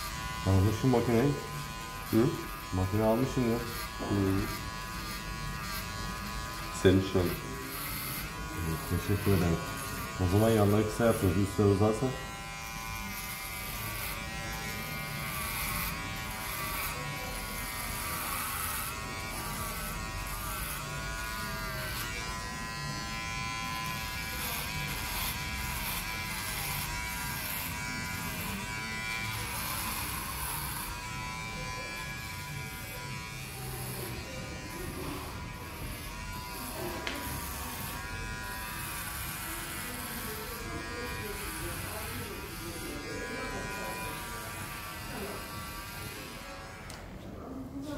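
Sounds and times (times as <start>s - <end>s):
electric hair clipper buzzing: 0.0s - 47.2s.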